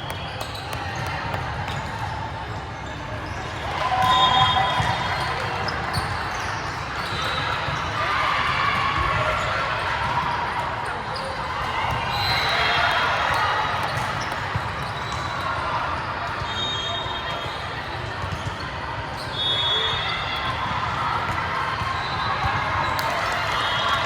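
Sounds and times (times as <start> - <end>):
hubbub of voices: 0.0 - 24.0.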